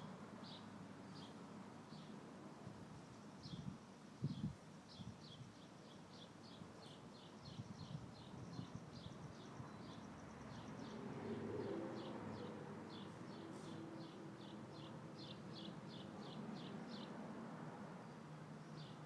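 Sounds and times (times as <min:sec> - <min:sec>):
wind rustling in a tree: 0:00.0 - 0:19.0.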